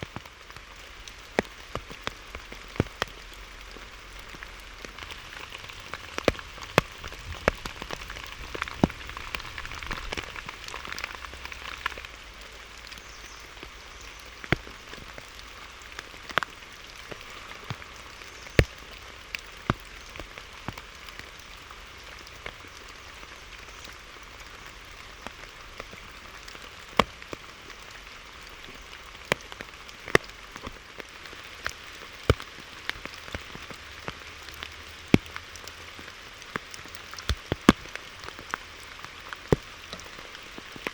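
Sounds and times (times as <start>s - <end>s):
heavy raindrops tapping: 0.0s - 40.9s
rain falling steadily: 0.0s - 40.9s.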